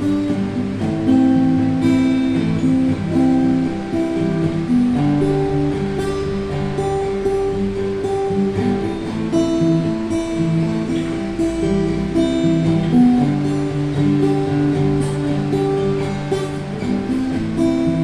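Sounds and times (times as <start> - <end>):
acoustic guitar playing chords: 0.0 - 18.0.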